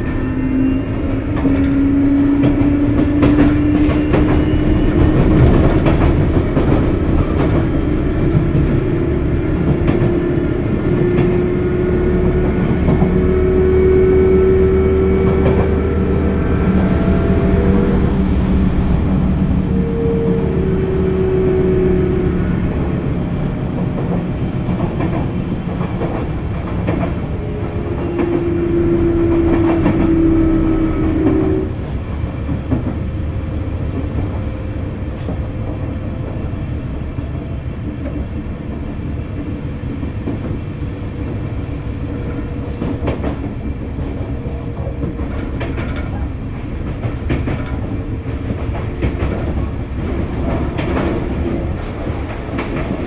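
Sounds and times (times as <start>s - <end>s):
electric train traction whine: 0.0s - 53.0s
train rolling noise: 0.0s - 53.0s.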